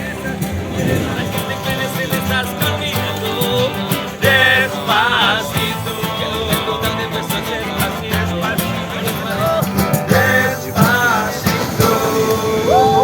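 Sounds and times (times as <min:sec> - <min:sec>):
person singing: 0:00.0 - 0:13.0
plucked guitar: 0:00.0 - 0:13.0.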